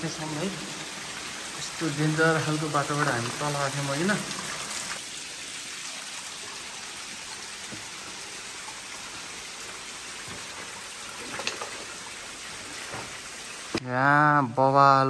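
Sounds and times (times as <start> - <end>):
water running and dripping: 0.0 - 13.8.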